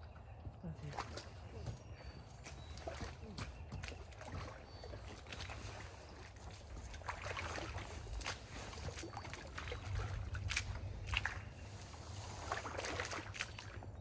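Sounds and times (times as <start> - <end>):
splashing in wet mud: 0.8 - 14.0.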